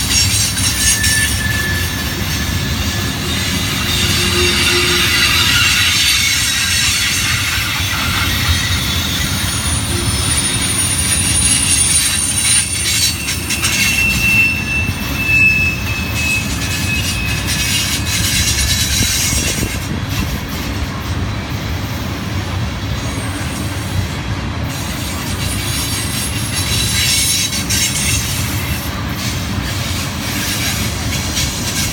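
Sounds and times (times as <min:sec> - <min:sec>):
thin wheel squeals: 0:00.0 - 0:19.7, 0:25.2 - 0:31.9
train wheels rumbling on rail: 0:00.0 - 0:31.9.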